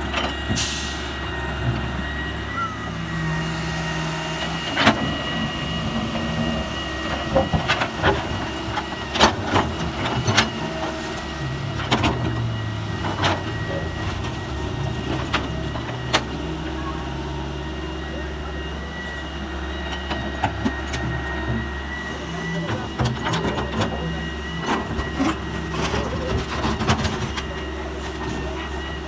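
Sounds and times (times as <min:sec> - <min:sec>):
diesel machinery engine hum: 0:00.0 - 0:29.0.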